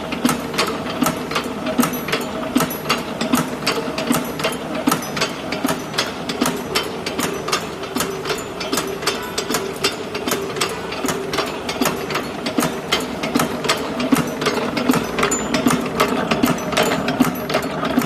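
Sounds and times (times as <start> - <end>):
machine metallic clicks and clacks: 0.0 - 18.0.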